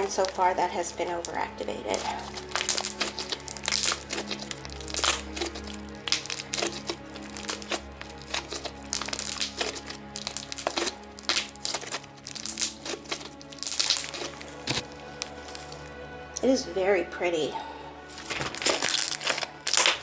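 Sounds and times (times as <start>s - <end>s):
slime crackling and popping: 0.0s - 16.0s, 18.1s - 20.0s.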